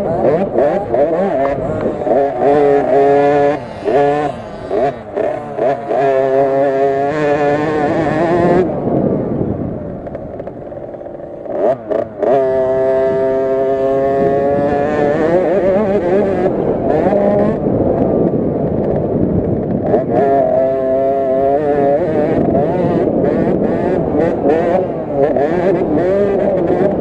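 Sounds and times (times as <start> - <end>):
minibike two-stroke engine revving: 0.0 - 27.0.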